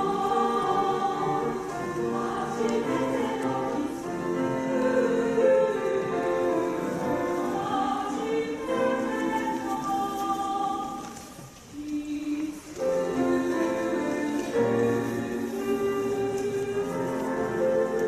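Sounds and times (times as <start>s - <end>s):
choir singing long held notes: 0.0s - 18.0s.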